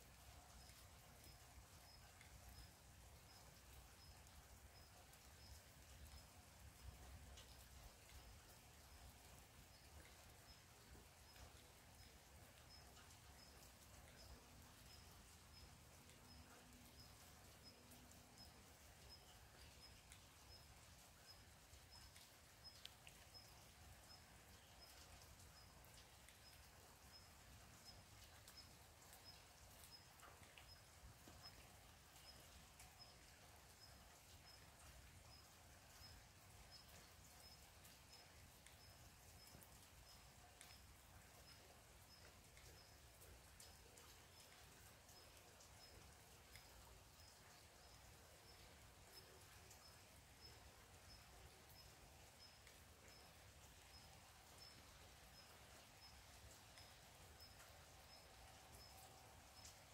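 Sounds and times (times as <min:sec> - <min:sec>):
faint ticks: 0:00.0 - 0:59.9.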